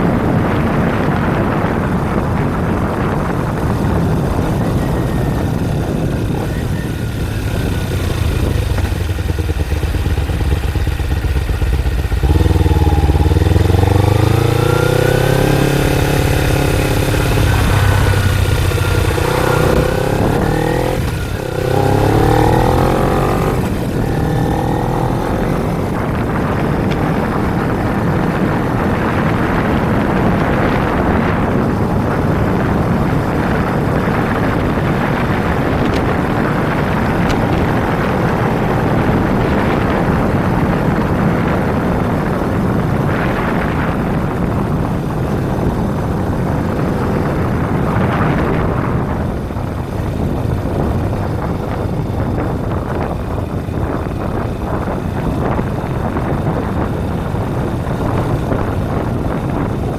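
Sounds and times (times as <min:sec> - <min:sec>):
motorcycle engine: 0:00.0 - 0:59.9
wind rushing on microphone: 0:00.0 - 0:59.9.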